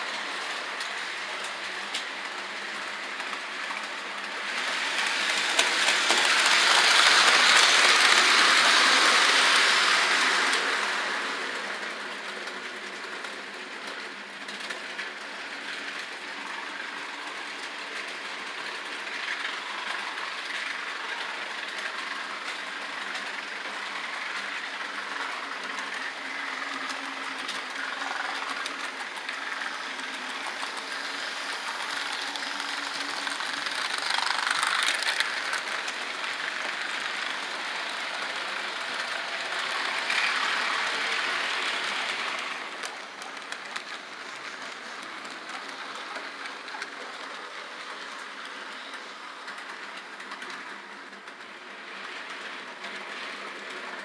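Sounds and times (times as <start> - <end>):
model train running on track: 0.0 - 54.0.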